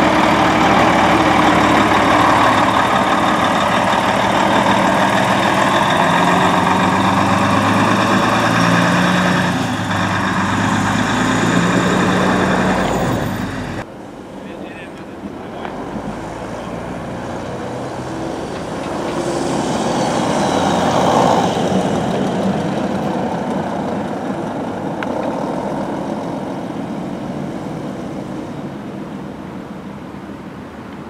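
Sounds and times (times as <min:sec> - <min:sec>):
bus diesel engine driving past: 0:00.0 - 0:30.9.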